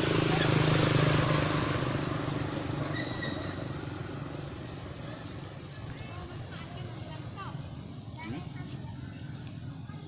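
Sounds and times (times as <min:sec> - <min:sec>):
passing vehicle engine: 0:00.0 - 0:10.0.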